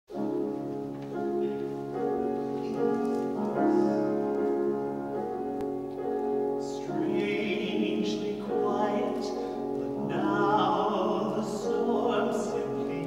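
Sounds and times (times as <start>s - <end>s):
grand piano chords: 0.1s - 13.0s.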